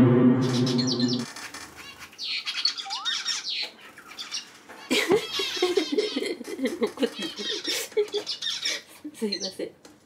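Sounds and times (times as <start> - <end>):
birds chirping: 0.0 - 9.7.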